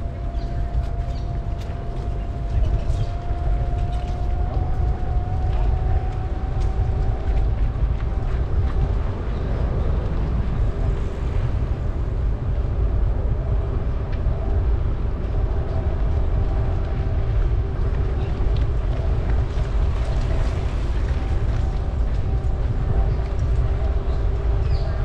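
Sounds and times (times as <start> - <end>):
faint bicycle ride noise: 0.0 - 25.0
wind rumble on microphone: 0.0 - 25.0.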